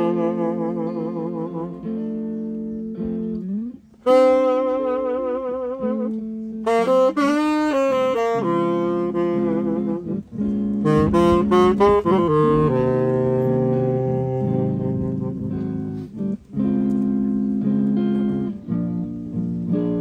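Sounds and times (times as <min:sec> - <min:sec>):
guitar accompaniment: 0:00.0 - 0:20.0
saxophone slow melody: 0:00.0 - 0:20.0.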